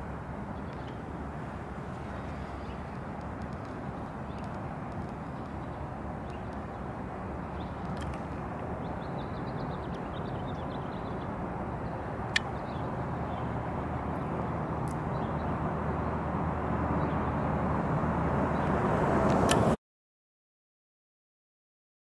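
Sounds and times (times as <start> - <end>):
low outdoor rumble: 0.0 - 19.5.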